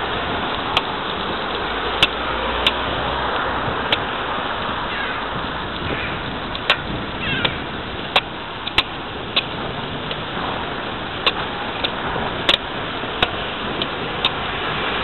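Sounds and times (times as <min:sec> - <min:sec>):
bicycle tyre and wind noise: 0:00.0 - 0:15.0
bike rattling over bumps: 0:00.0 - 0:15.0.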